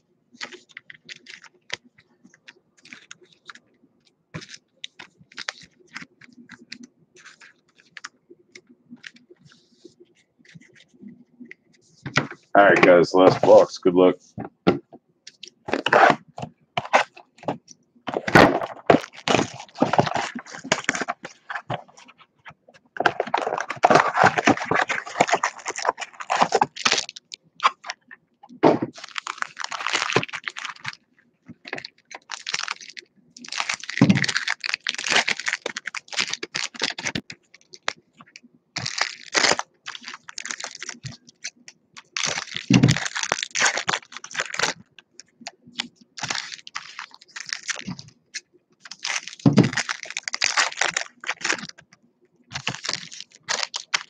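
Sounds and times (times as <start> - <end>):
plastic wrappers crinkling and tearing: 0.4 - 9.6, 12.2 - 13.8, 15.3 - 54.0.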